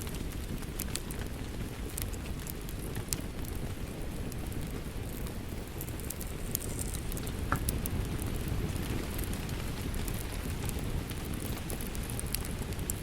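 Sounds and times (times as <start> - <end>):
sharp pops of fire: 0.0 - 13.0
wood fire crackling: 0.0 - 13.0.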